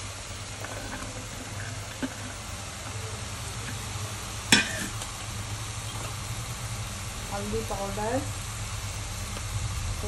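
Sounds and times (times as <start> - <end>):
okra sizzling in hot oil: 0.0 - 10.0.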